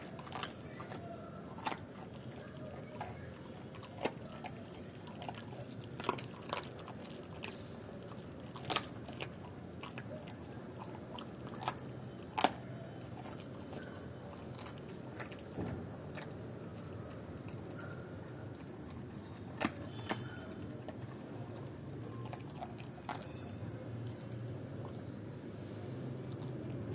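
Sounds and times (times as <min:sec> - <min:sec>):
bone crunching: 0:00.0 - 0:23.5
dog chewing: 0:00.0 - 0:25.4, 0:26.0 - 0:26.9.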